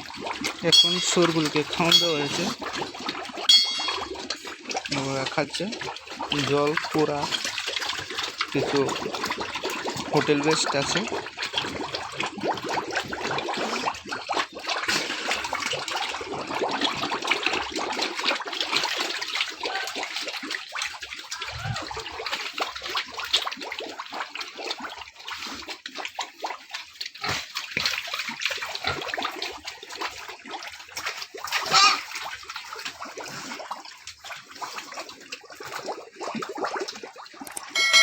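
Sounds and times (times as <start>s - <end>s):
pigs slurping wet food: 0.0s - 37.8s.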